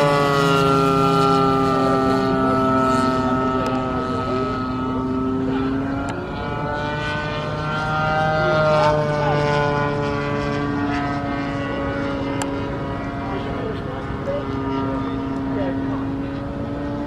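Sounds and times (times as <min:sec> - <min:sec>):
model plane engine flying: 0:00.0 - 0:17.0.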